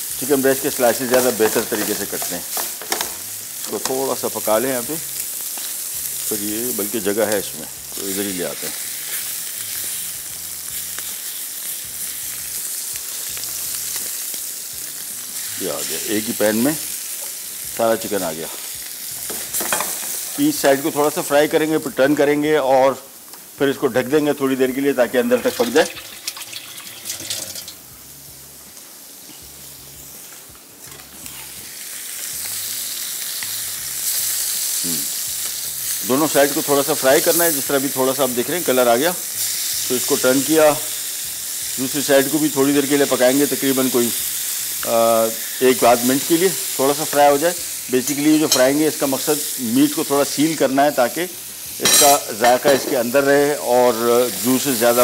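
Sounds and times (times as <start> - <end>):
chicken sizzling in frying pan: 0.0 - 55.0.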